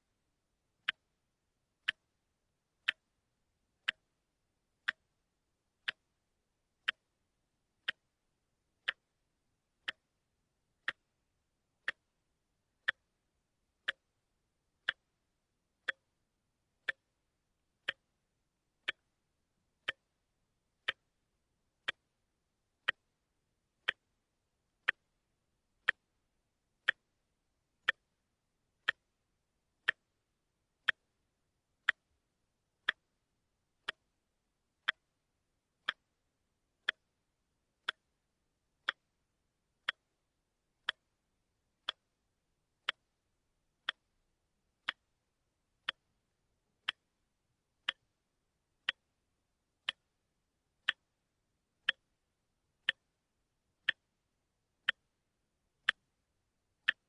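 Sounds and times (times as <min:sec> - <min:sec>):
watch ticking: 0:00.7 - 0:35.2, 0:35.8 - 0:57.0.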